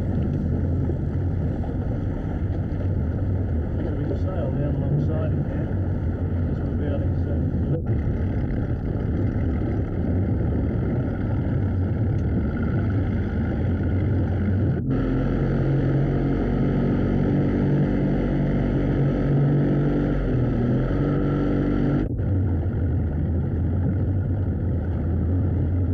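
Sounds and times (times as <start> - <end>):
motorboat engine running: 0.0 - 25.9
water noise: 0.0 - 25.9.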